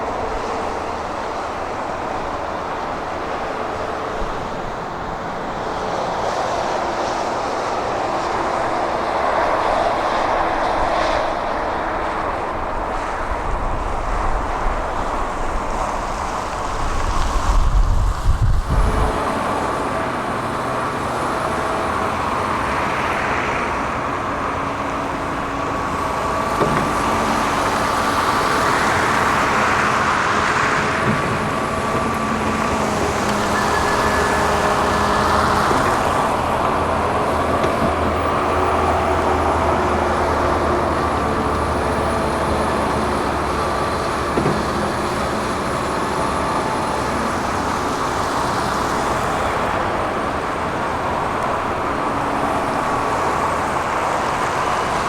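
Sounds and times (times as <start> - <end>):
excavator engine and hydraulics: 0.0 - 55.0
hydraulic whine: 0.0 - 55.0.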